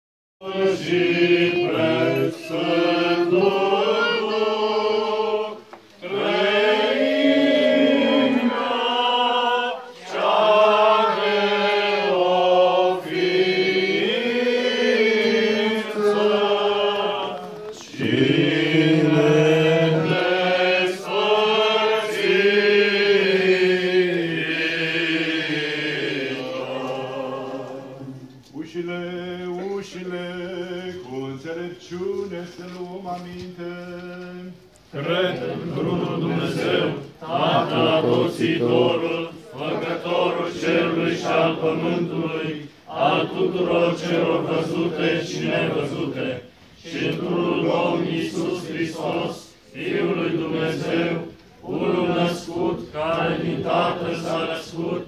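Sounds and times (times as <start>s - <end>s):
men singing liturgical chant: 0.4s - 55.0s.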